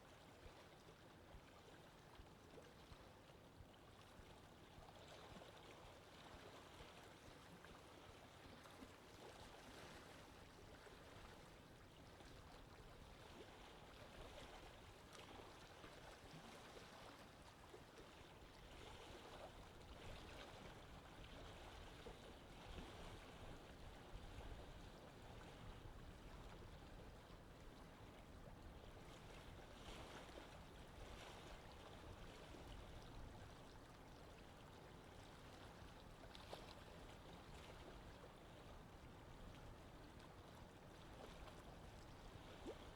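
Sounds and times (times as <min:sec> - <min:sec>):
faint sea water wash: 0:00.0 - 0:42.9.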